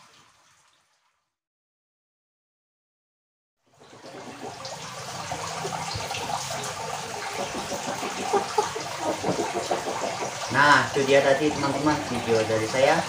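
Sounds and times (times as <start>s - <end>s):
aquarium water trickling: 0.0s - 1.4s, 3.6s - 13.0s.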